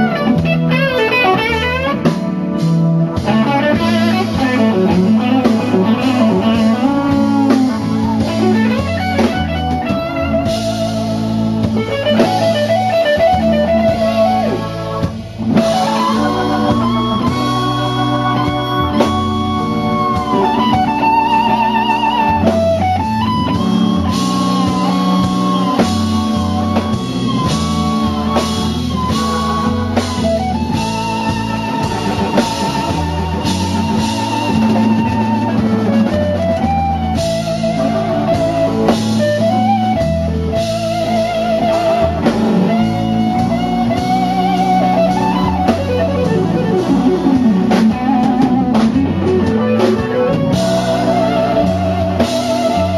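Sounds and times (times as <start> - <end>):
bass: 0.0 - 52.9
drums: 0.0 - 52.9
slow blues guitar lead: 0.0 - 52.9.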